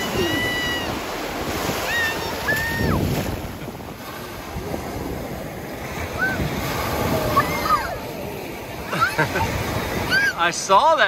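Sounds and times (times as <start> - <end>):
wind on microphone: 0.0 - 10.4
small waves breaking on sand: 0.0 - 11.0.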